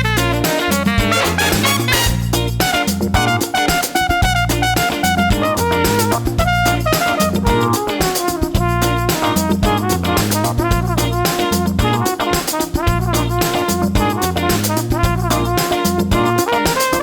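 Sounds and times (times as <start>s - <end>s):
upbeat jazzy music with brass: 0.0s - 17.0s.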